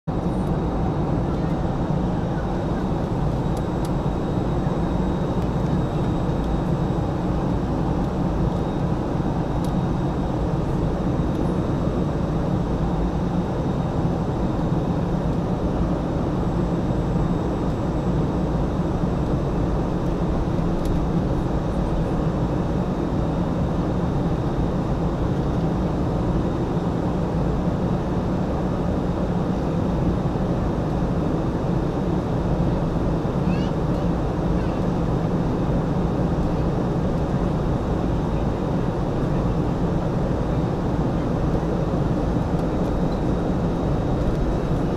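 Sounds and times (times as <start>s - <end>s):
airliner cabin engine rush: 0.1s - 44.9s.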